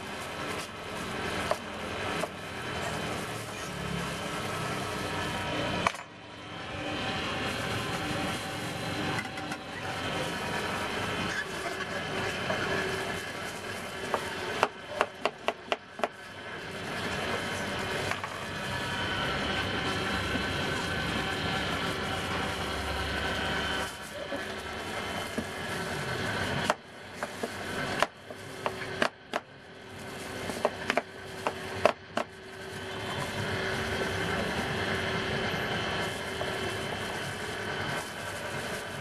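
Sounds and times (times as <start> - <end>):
street stall hum: 0.0 - 39.0.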